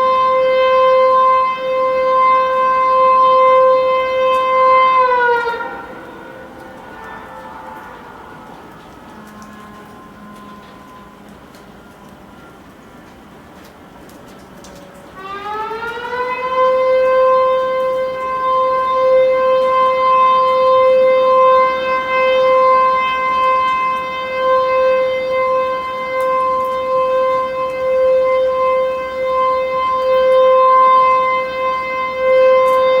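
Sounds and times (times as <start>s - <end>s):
wailing warning siren: 0.0s - 33.0s.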